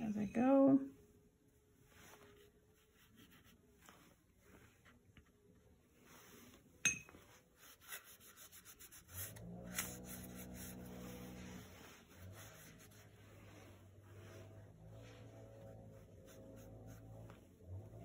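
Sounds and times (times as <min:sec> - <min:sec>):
low steady hum: 0:00.0 - 0:18.0
paintbrush rubbing on wet paper: 0:01.8 - 0:05.0, 0:06.0 - 0:18.0.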